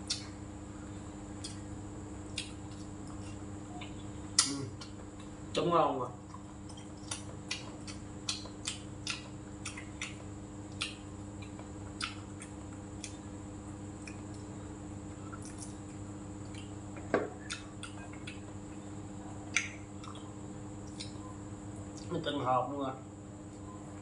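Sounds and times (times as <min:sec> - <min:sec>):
electric fan humming: 0:00.0 - 0:24.0.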